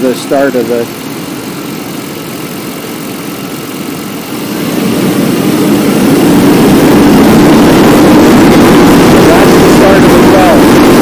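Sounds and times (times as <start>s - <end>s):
engine idling and revving: 0.0s - 11.0s.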